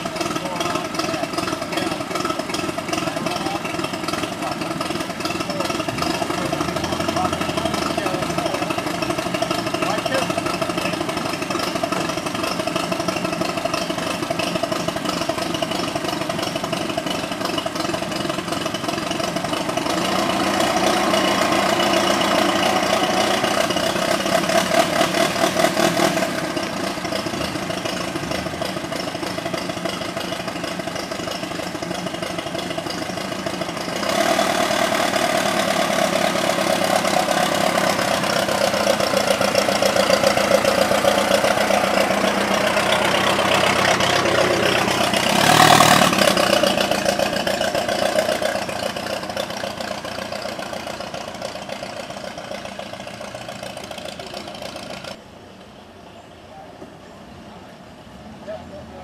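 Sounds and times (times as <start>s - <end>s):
car engine idling and driving off: 0.0s - 59.0s.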